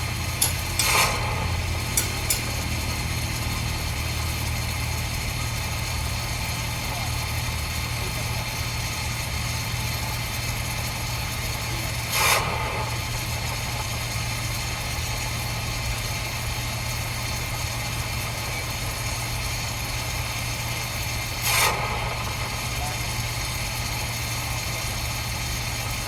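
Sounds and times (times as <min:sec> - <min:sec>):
low machine hum with hiss: 0:00.0 - 0:26.0.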